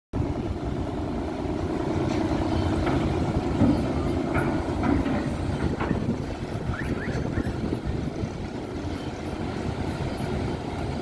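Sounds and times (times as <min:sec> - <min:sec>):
ferry engines rumbling: 0:00.2 - 0:11.0.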